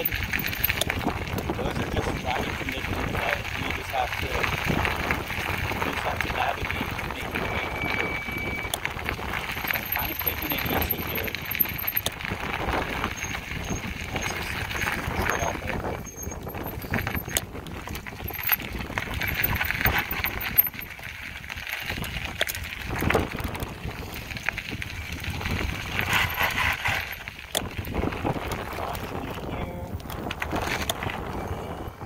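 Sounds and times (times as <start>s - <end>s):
bike rattling clicks and knocks: 0.0s - 32.0s
tyres crunching over gravel: 0.0s - 32.0s.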